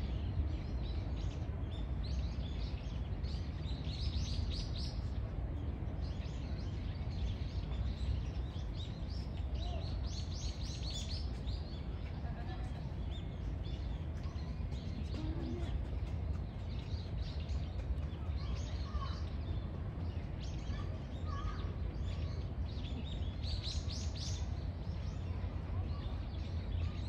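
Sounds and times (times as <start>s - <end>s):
small birds chirping: 0.0s - 27.0s
steady low rumble: 0.0s - 27.0s.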